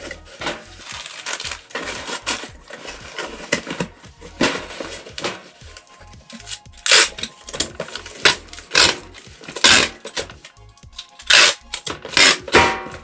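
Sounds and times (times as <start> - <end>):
packing tape rasping off dispenser: 0.0 - 13.0.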